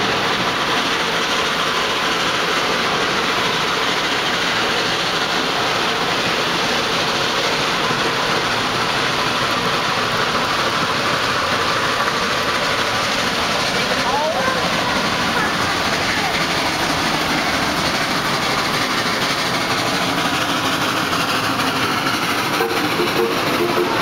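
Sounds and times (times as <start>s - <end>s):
steam train hiss and rumble: 0.0s - 24.0s.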